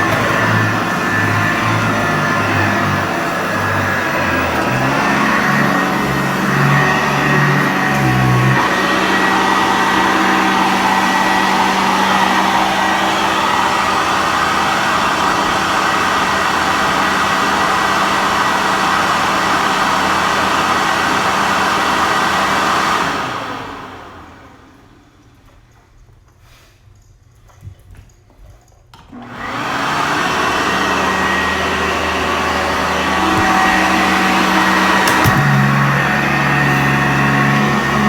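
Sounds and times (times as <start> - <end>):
upright vacuum cleaner running: 0.0 - 25.6, 29.1 - 38.0.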